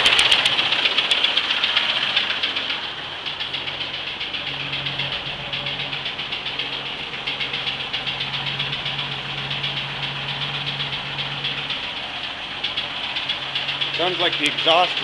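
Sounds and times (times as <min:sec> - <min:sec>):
engine idling with knock: 0:00.0 - 0:15.0.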